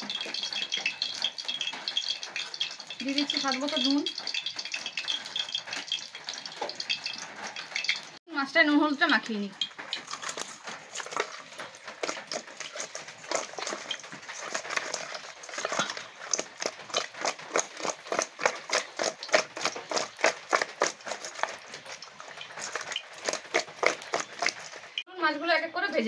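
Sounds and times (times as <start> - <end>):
hands rubbing wet fish: 0.0 - 8.1, 9.6 - 25.0.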